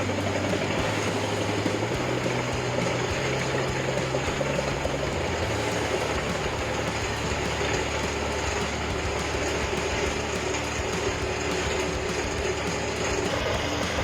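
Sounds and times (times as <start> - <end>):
wood chipper running: 0.0 - 14.0.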